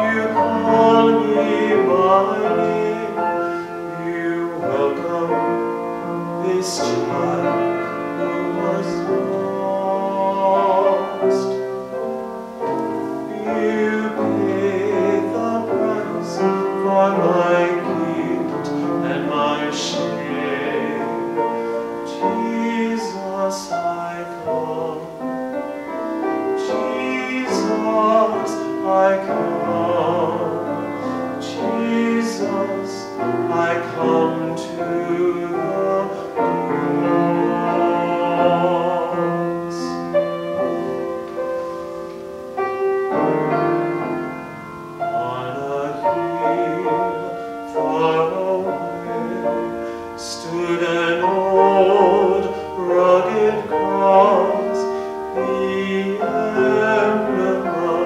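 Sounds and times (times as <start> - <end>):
man singing with vibrato: 0.0 - 41.8, 42.4 - 58.0
piano: 0.0 - 58.0.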